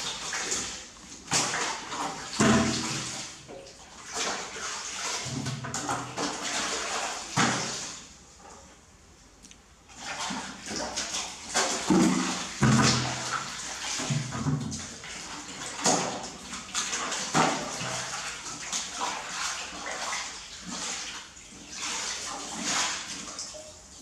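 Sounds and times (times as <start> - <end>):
water splashing in a metal basin: 0.0 - 8.2, 9.9 - 24.0.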